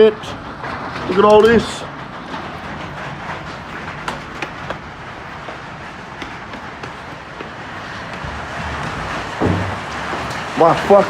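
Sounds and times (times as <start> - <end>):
hailstones pattering: 0.0 - 11.0.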